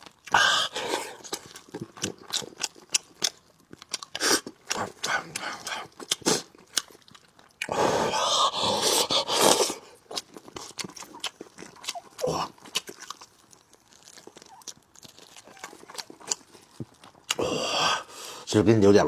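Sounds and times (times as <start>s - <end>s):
close-miked chewing: 0.0s - 18.5s
mouth sounds eating: 0.0s - 18.5s.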